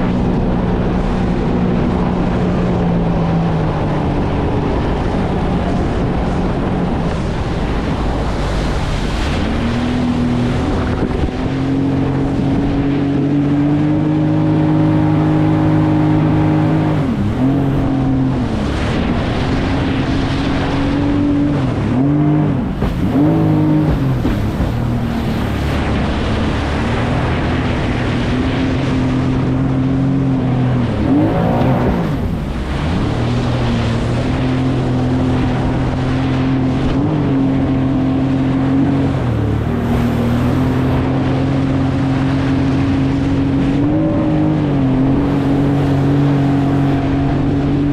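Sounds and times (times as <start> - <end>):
jet ski engine running: 0.0 - 47.9
rush of wind and water: 0.0 - 47.9.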